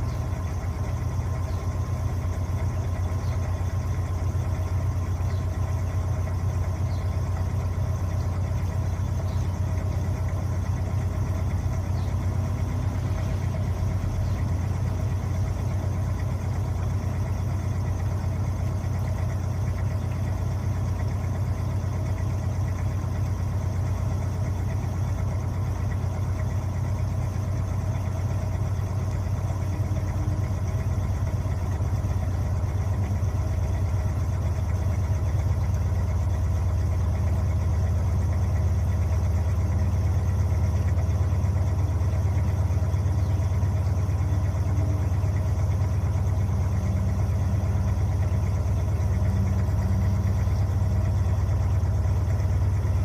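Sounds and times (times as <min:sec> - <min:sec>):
washing machine humming: 0:00.0 - 0:53.0.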